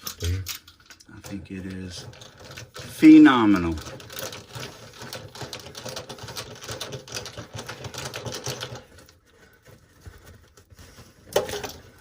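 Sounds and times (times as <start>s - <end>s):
aluminium duct crinkling: 0.0s - 12.0s.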